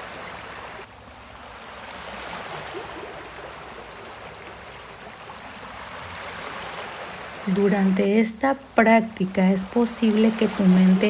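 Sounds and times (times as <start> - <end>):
sea waves surf: 0.0 - 11.0.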